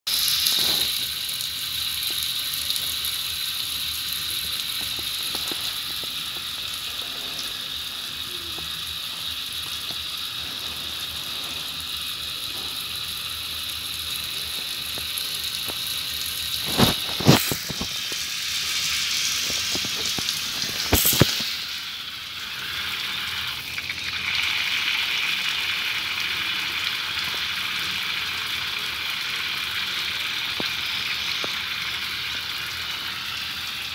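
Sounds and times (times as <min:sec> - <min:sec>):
water spraying from a tap: 0:00.1 - 0:33.9.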